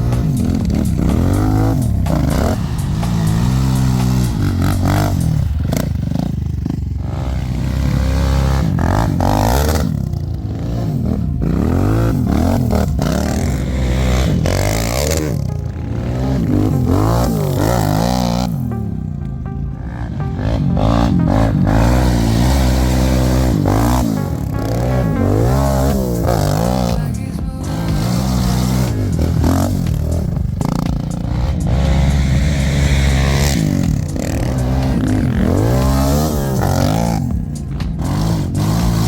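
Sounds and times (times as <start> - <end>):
quad engine revving: 0.0 - 39.0.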